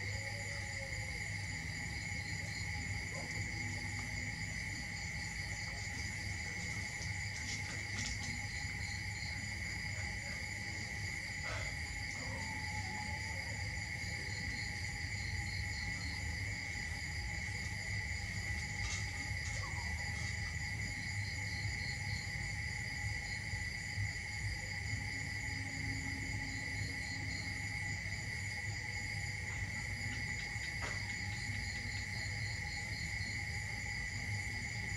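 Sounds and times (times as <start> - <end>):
pulsing insect trills: 0.0 - 34.9.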